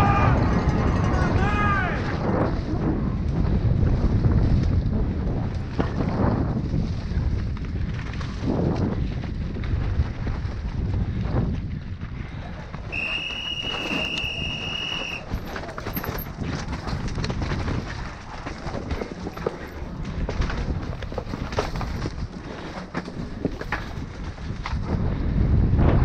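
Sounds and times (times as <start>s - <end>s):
bike rattling: 0.0s - 26.0s
tyres rumbling over dirt and rock: 0.0s - 26.0s
wind on microphone: 0.0s - 26.0s.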